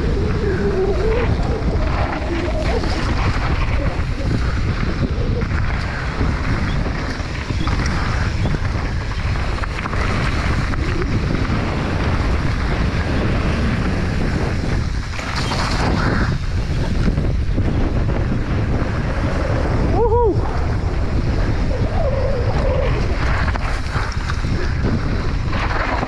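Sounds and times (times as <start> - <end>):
bike tyres rolling on dirt: 0.0 - 26.0
wind rushing over microphone: 0.0 - 26.0.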